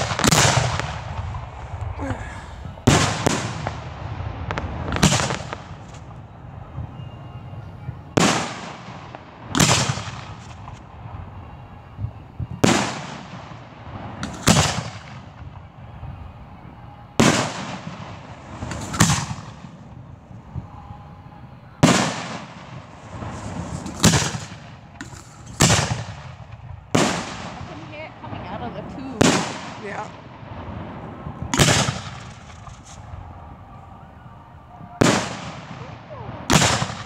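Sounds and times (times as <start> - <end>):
firework shells booming: 0.0 - 7.2, 8.1 - 37.0.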